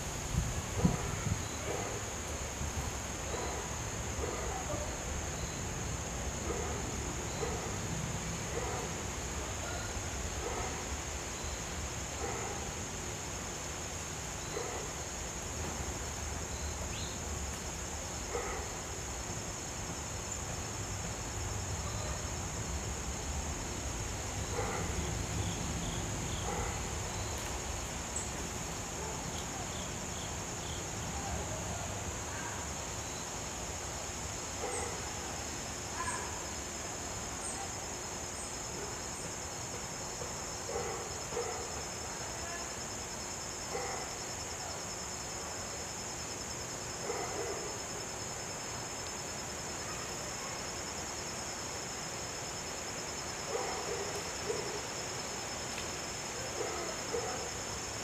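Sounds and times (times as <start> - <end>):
insects singing drone: 0.0 - 58.0.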